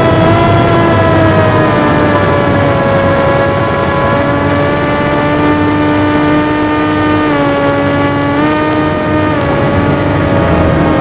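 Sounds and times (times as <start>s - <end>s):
low rumbling wind noise: 0.0s - 11.0s
propeller motor whine: 0.0s - 11.0s.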